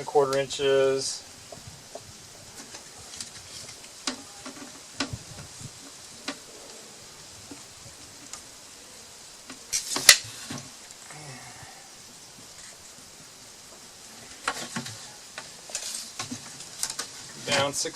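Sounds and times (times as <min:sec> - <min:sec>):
steady low hiss: 0:00.0 - 0:17.9.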